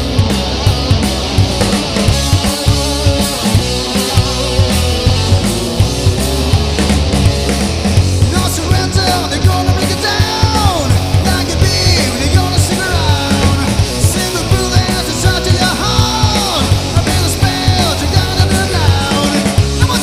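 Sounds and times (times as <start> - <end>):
rock band playing punk live: 0.0 - 20.0
sliding high guitar notes: 0.0 - 20.0.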